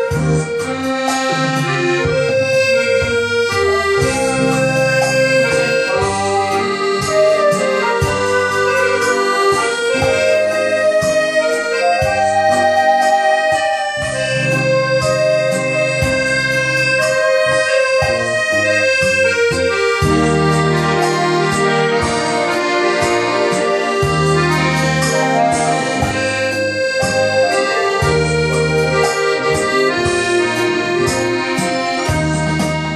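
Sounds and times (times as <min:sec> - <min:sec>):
accordion melody: 0:00.0 - 0:32.9
electronic organ with beat: 0:00.0 - 0:32.9.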